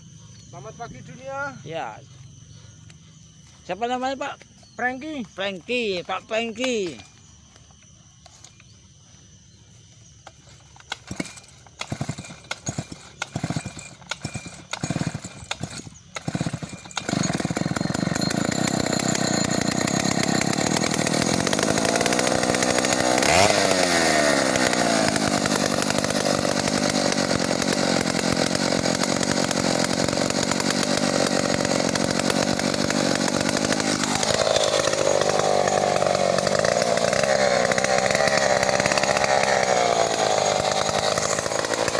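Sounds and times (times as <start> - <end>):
chainsaw pull-starting and running: 0.1 - 41.9.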